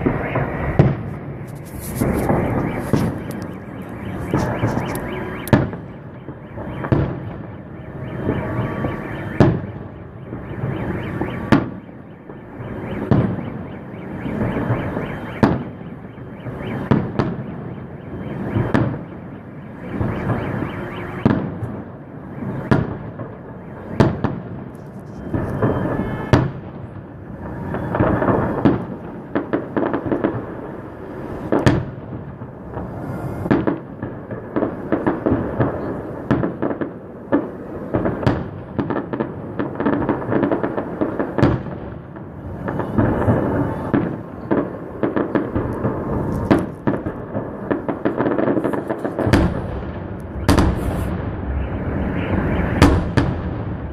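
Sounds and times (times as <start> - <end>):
rumble of explosions: 0.0 - 53.9.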